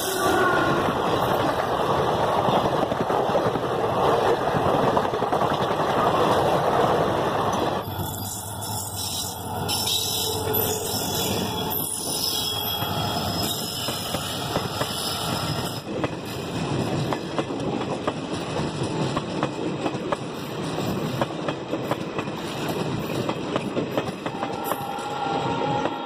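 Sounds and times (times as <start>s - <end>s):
train wheels clattering over rails: 0.0s - 25.2s.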